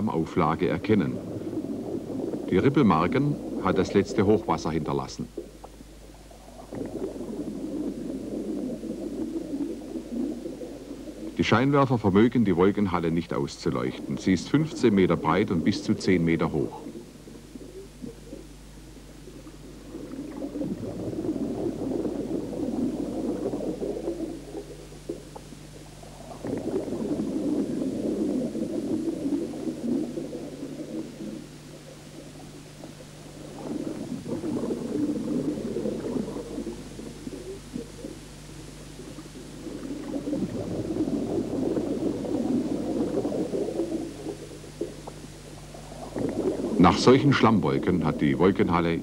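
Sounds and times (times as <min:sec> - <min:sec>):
underwater breath bubbling: 0:00.0 - 0:04.6, 0:05.2 - 0:12.3, 0:13.8 - 0:48.1
steady low hum: 0:00.0 - 0:49.0.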